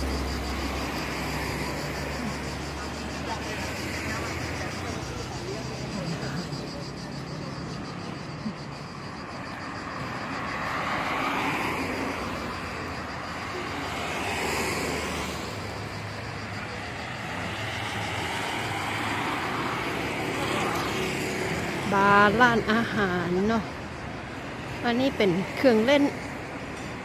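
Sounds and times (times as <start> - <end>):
street noise: 0.0 - 27.0
vehicles passing: 0.0 - 27.0.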